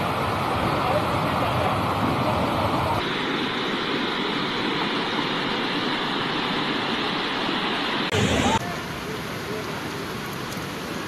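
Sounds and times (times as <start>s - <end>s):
fast-flowing floodwater rushing: 0.0s - 11.0s.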